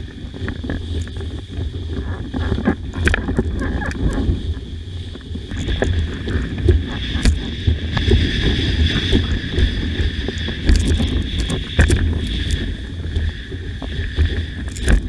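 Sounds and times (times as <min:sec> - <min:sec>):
water rushing past board: 0:00.0 - 0:15.0
water slapping: 0:00.0 - 0:15.0
wind buffeting microphone: 0:00.0 - 0:15.0.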